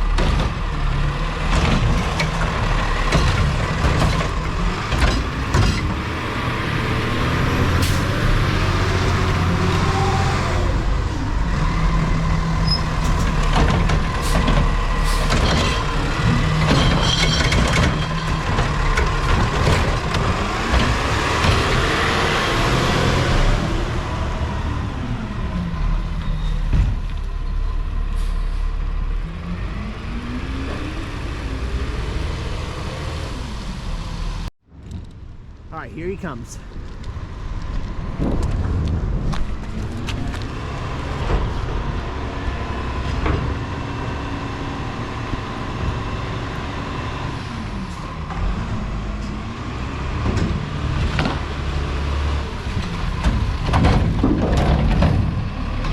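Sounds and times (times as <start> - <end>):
diesel truck engine: 0.0 - 34.5, 35.4 - 55.9.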